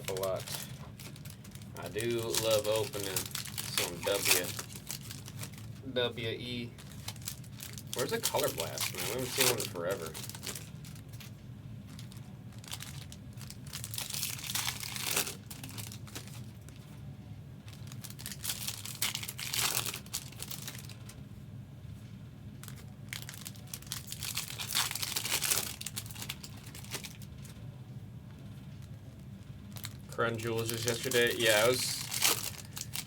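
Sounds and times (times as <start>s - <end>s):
foil wrappers tearing and crinkling: 0.0s - 5.7s, 6.8s - 16.8s, 17.7s - 21.2s, 22.6s - 27.6s, 29.7s - 33.0s.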